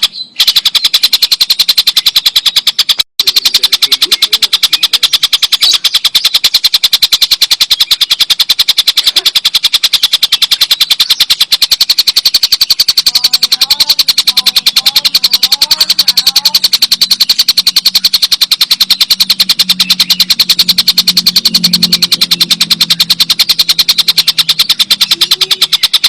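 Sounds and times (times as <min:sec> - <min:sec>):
faint bird chirps: 0:00.0 - 0:26.0
kingfisher laughing chatter: 0:03.2 - 0:26.0.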